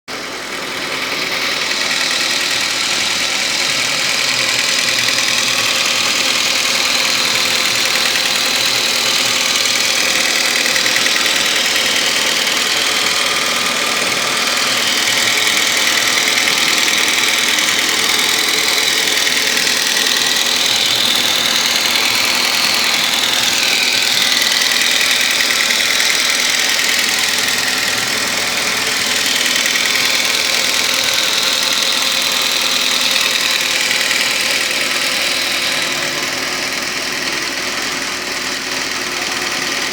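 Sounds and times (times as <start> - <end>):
engine running with knocking: 0.0 - 39.9.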